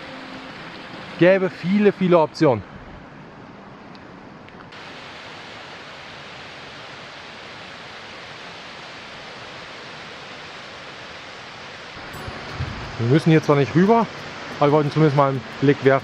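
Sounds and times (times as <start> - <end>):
fast river water rushing: 0.0 - 2.5, 4.7 - 16.0.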